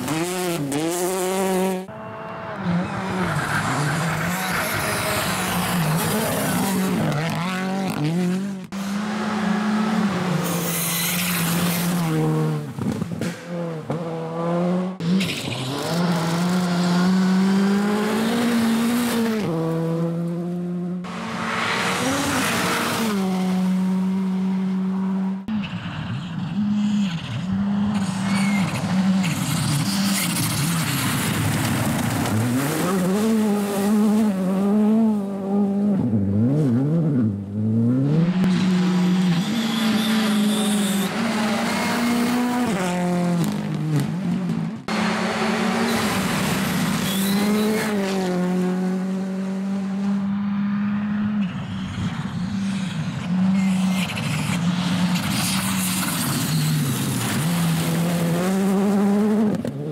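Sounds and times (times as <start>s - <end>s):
rally car engines at full throttle: 0.0s - 59.9s.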